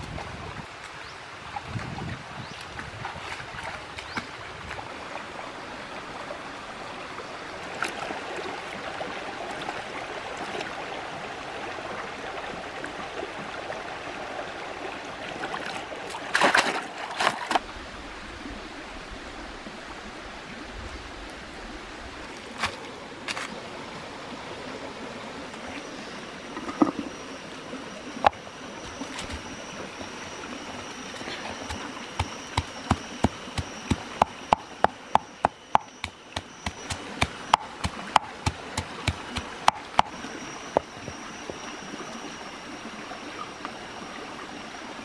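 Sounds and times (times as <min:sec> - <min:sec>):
stream running over rocks: 0:00.0 - 0:45.0.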